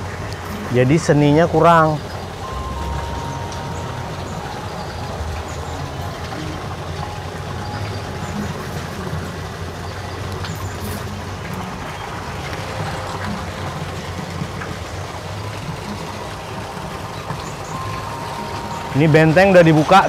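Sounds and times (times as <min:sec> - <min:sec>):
fountain water splashing: 0:00.0 - 0:20.0.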